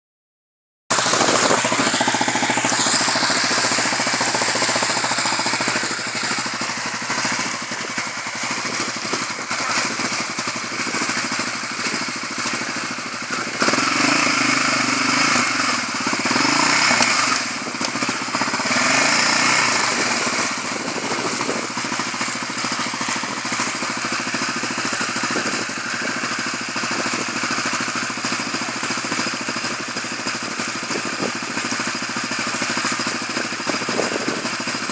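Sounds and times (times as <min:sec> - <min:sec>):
quad engine idling and revving: 0:00.9 - 0:34.9.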